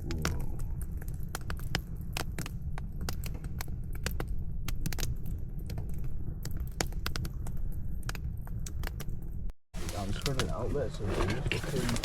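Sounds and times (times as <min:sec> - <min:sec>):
campfire crackling and popping: 0:00.0 - 0:12.0
low fire rumble: 0:00.0 - 0:12.0.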